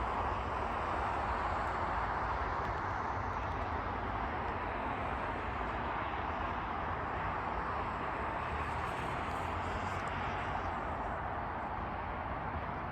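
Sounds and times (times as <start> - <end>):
vehicle rumble with hiss: 0.0 - 12.9.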